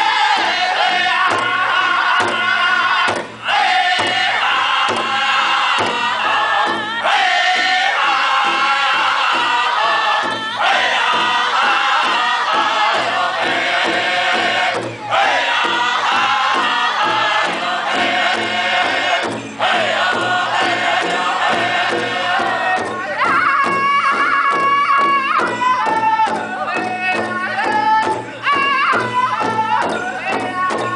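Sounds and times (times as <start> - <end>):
group singing in high voices: 0.0 - 30.9
large drum beating: 0.0 - 30.9.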